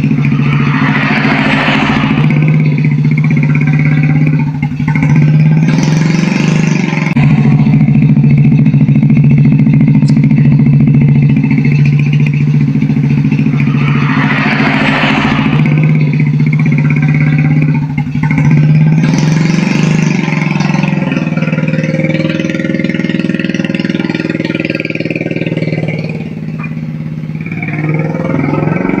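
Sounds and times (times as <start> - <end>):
small motorcycle engine revving: 0.0 - 29.0.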